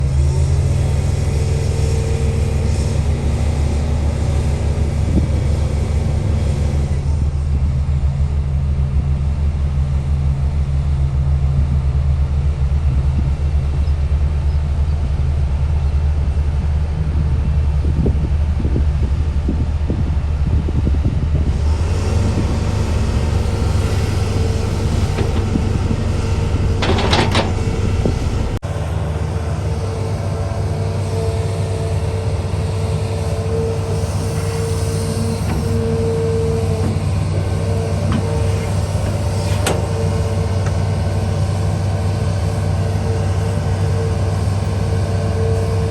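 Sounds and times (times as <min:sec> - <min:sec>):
heavy machinery engine droning: 0:00.0 - 0:45.9.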